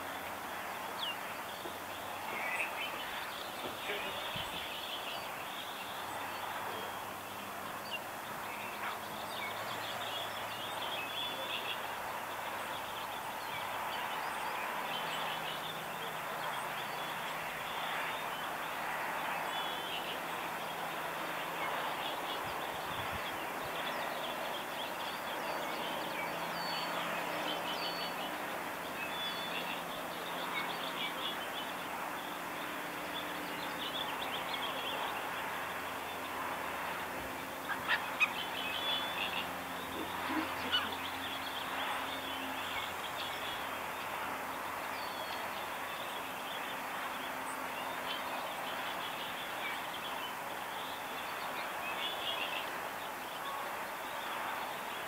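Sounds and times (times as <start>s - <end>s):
birds chirping: 0.0s - 55.0s
steady outdoor hiss: 0.0s - 55.0s.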